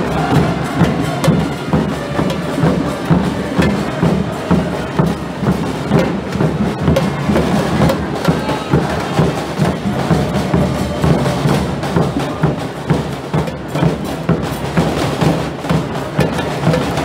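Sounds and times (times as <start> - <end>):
marching drums beating: 0.0 - 17.0.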